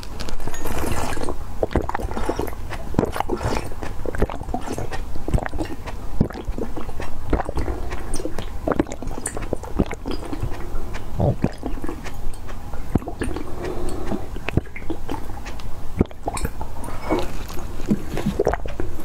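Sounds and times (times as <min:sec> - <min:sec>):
sipping and gulping drink: 0:00.0 - 0:19.0
swallowing: 0:00.5 - 0:19.0
wet mouth clicks: 0:00.8 - 0:19.0.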